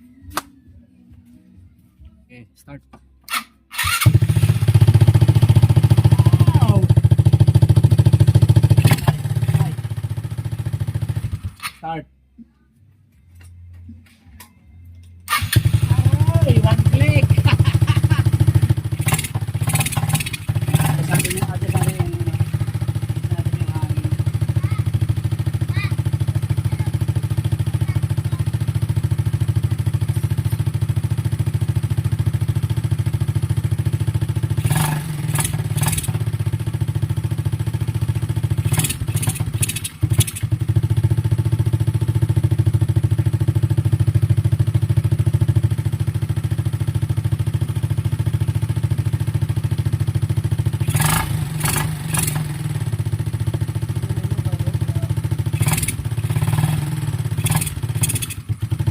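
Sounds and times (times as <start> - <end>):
scooter engine idling: 3.7 - 11.6, 15.3 - 58.9.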